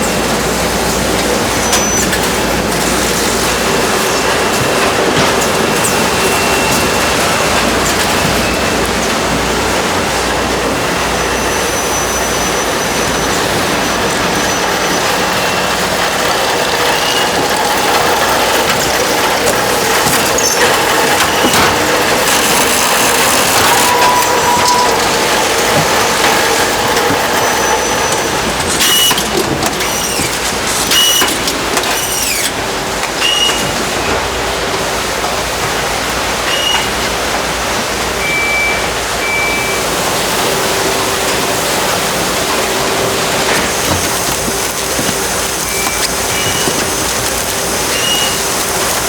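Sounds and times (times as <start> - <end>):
production machinery running: 0.0 - 49.0.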